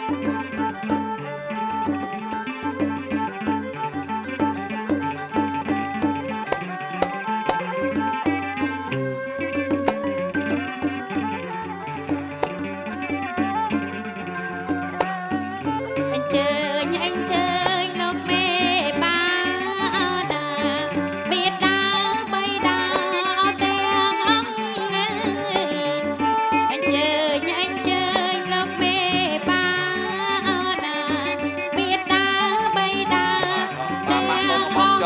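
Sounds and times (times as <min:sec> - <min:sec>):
traditional wedding music: 0:00.0 - 0:35.0.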